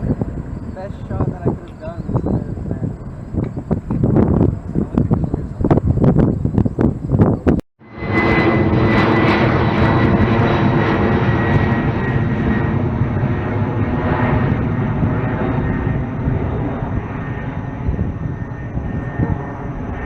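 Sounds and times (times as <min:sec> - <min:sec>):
jet airliner passing: 0:00.0 - 0:20.0
wind buffeting microphone: 0:00.0 - 0:20.0.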